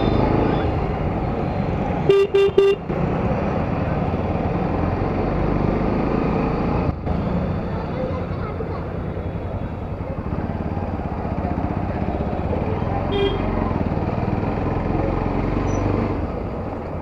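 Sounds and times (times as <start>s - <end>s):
road and street noise: 0.0s - 17.0s.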